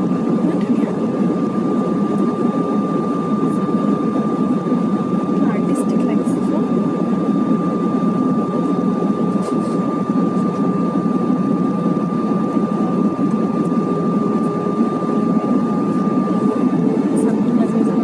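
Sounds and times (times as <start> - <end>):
jet engines and airflow rush: 0.0 - 18.0.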